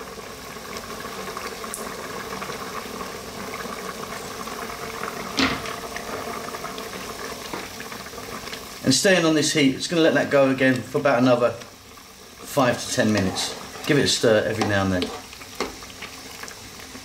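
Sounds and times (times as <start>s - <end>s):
stew bubbling in a pot: 0.0s - 17.0s.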